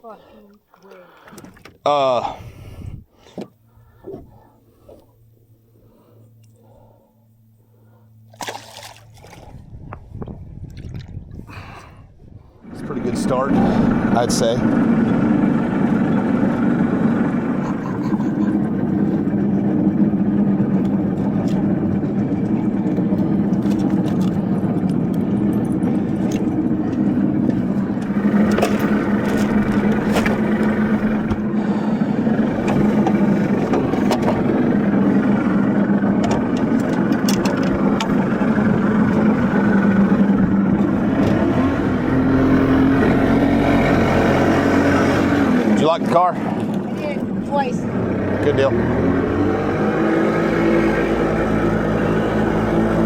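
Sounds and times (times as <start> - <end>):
engine humming steadily: 0.0 - 10.7, 11.4 - 53.0.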